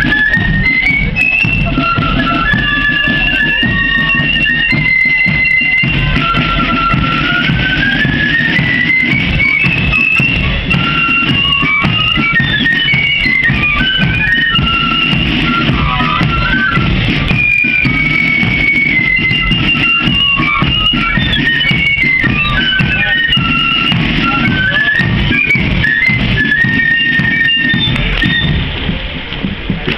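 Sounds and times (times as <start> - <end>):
drums beating: 0.0 - 29.9
flute band playing: 0.0 - 29.9.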